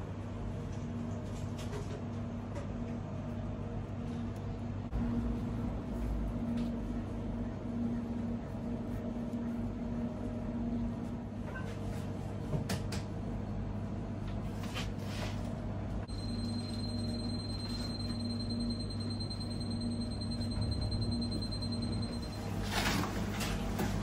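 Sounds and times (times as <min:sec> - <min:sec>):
kitchen machinery hum: 0:00.0 - 0:24.0.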